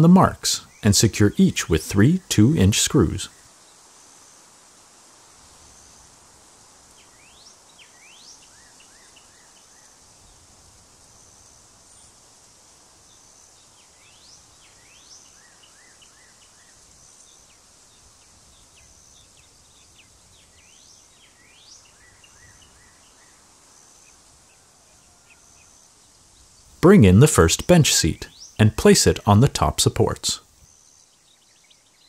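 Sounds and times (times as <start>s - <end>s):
songbird singing: 0.0s - 3.9s, 6.9s - 10.5s, 13.0s - 32.0s
steady hiss: 0.0s - 32.0s.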